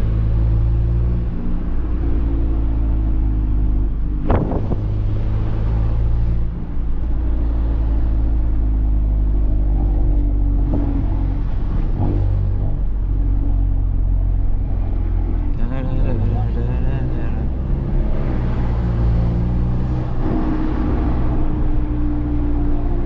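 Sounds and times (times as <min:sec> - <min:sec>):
car engine running: 0:00.0 - 0:23.0
road rumble: 0:00.0 - 0:23.0.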